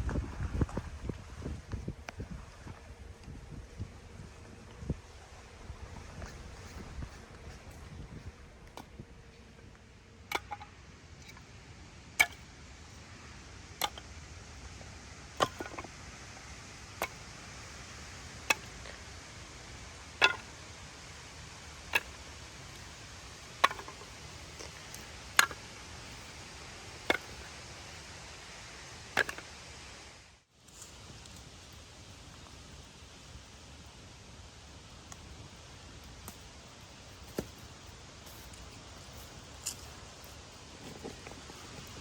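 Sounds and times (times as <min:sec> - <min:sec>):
steady background hiss: 0:00.0 - 0:42.0.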